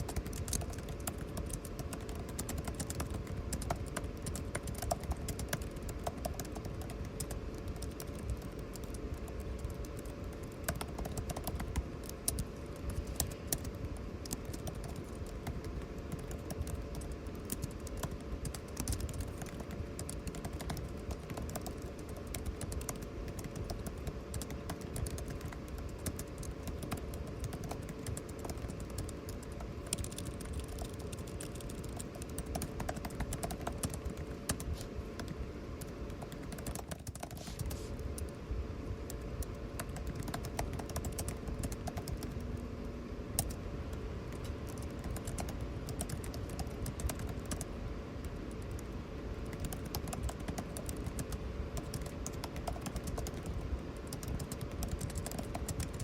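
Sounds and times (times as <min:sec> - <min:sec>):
typing on computer keyboard: 0:00.0 - 0:38.4, 0:39.0 - 0:42.5, 0:43.4 - 0:56.0
air conditioning hum: 0:00.0 - 0:56.0.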